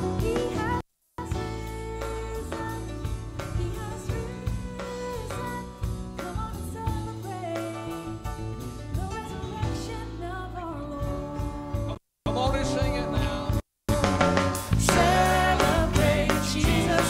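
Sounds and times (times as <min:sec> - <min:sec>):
bass guitar: 0:00.0 - 0:17.0
drum kit: 0:00.0 - 0:17.0.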